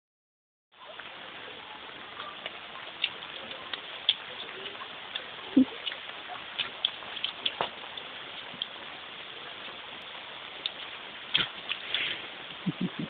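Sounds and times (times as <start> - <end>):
rain hissing: 0.8 - 13.0
raindrops ticking close by: 0.8 - 13.0.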